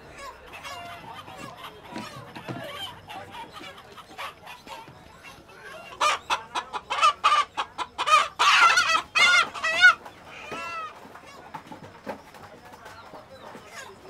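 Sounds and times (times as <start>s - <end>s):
chickens squawking and clucking: 0.0s - 14.0s.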